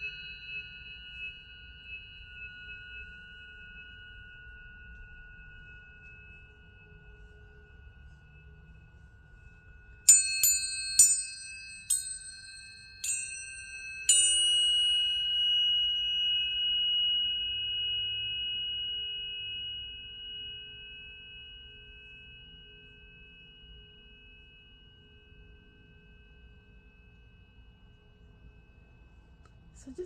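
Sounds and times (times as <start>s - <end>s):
pure high tone ringing: 0.0s - 30.0s
tuning forks struck: 0.0s - 30.0s.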